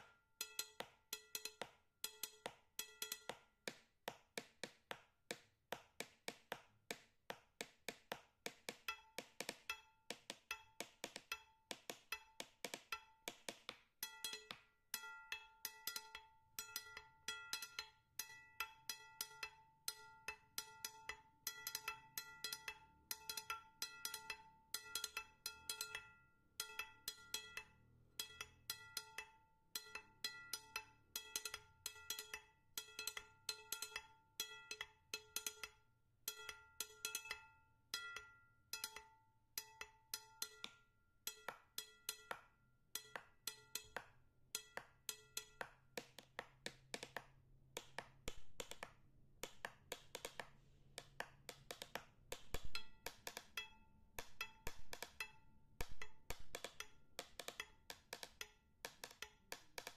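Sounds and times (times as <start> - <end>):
wood-block-like clicks: 0.0 - 14.7, 15.3 - 59.9.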